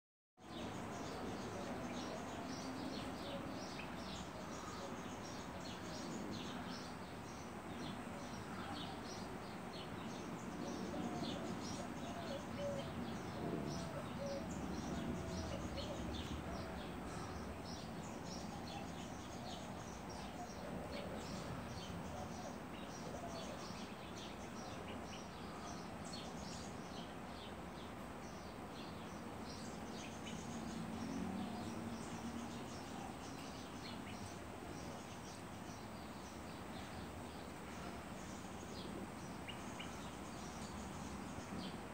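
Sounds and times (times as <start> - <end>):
low background noise: 0.4 - 41.9
small birds chirping: 0.4 - 41.9.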